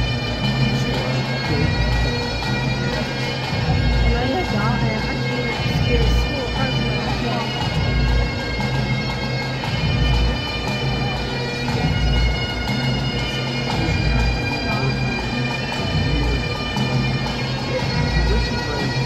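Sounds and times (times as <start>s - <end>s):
bagpipes playing a tune: 0.0s - 19.0s.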